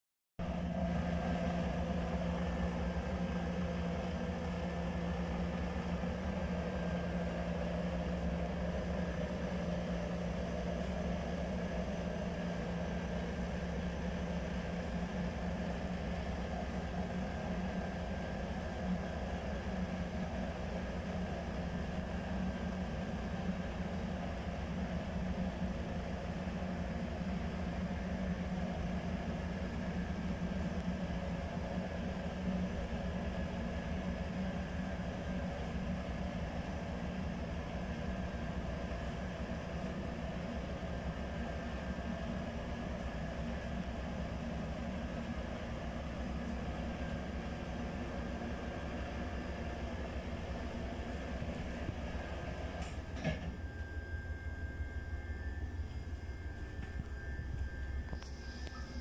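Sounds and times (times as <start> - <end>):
low mechanical hum: 0.4 - 59.0.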